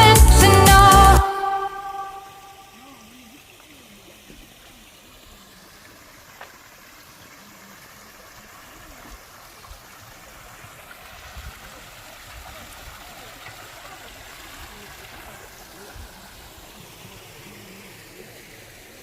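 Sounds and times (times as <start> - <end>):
stream water rushing: 0.0 - 19.0
faint distant voices: 2.6 - 19.0.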